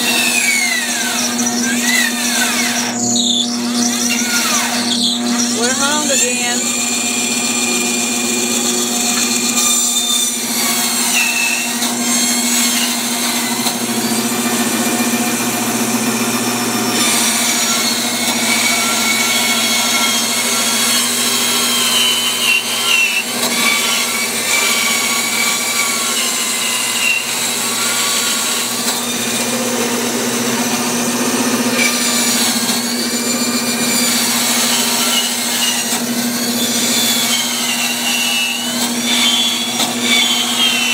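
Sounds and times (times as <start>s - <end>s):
bandsaw motor hum: 0.0s - 40.9s
saw blade whine in wood: 0.0s - 40.9s.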